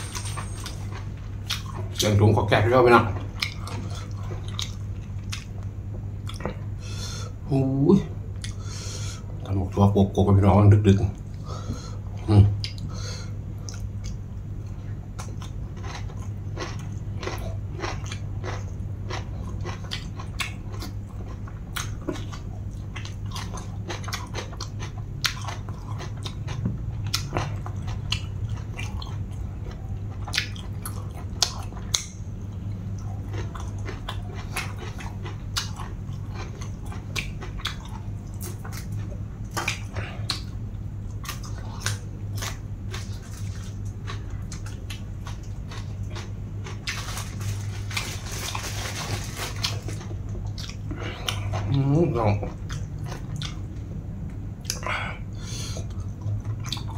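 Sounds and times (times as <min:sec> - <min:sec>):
person chewing crunchy food: 0:00.0 - 0:07.4, 0:11.2 - 0:56.9
steady low hum: 0:00.0 - 0:56.9.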